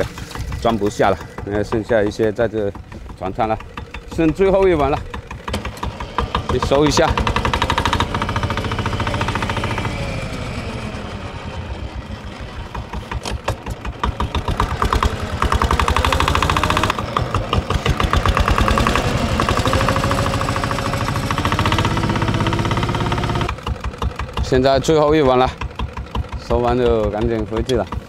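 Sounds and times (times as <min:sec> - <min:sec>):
boat engine knocking: 0:00.0 - 0:10.3, 0:11.0 - 0:28.0.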